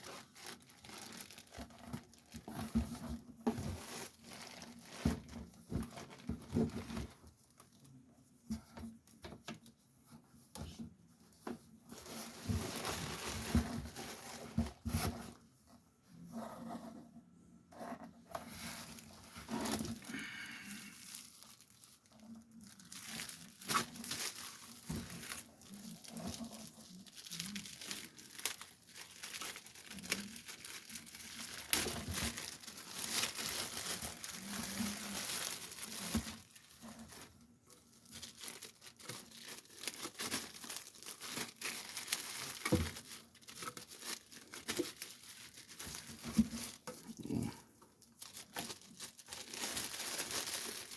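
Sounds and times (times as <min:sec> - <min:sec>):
plastic packaging crinkling: 0:00.0 - 0:08.0, 0:11.9 - 0:15.4, 0:18.4 - 0:50.9.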